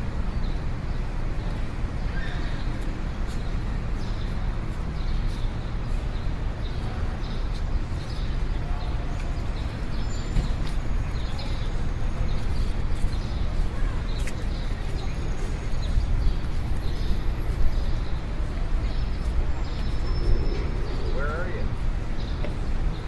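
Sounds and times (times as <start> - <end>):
traffic rumble: 0.0 - 23.0
distant voices: 4.0 - 23.0.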